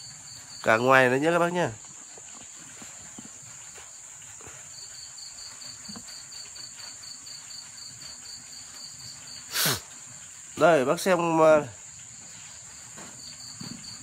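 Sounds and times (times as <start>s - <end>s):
crickets trilling: 0.0s - 14.0s
insect chirping: 0.0s - 14.0s.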